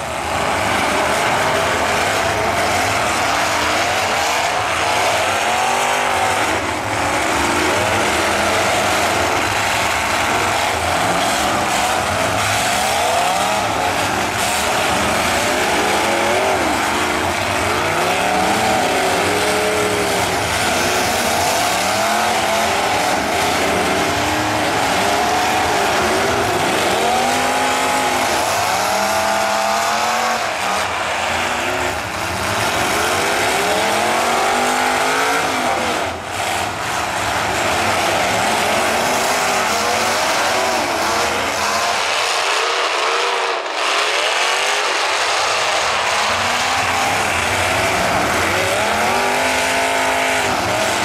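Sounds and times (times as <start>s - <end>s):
steady loud noise: 0.0s - 51.0s
truck engines revving hard: 0.0s - 51.0s.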